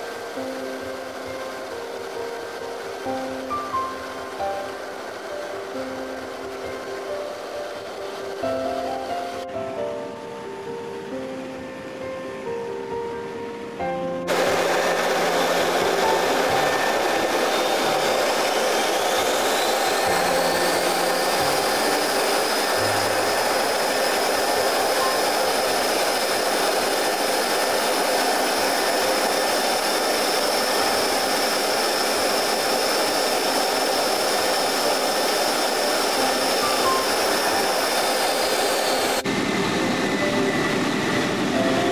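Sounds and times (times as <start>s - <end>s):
aircraft cabin engine noise: 0.0s - 41.9s
high engine whine: 0.0s - 41.9s.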